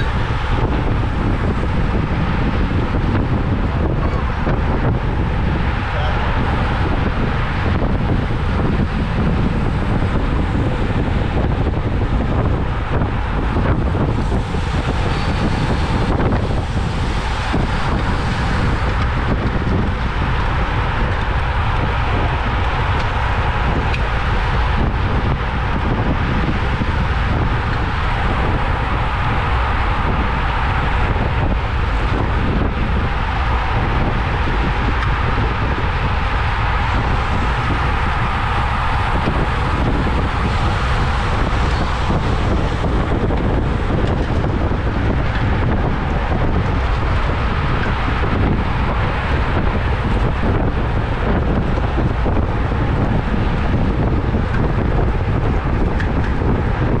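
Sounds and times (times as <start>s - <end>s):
road and tyre noise: 0.0s - 57.0s
wind rushing over microphone: 0.0s - 57.0s.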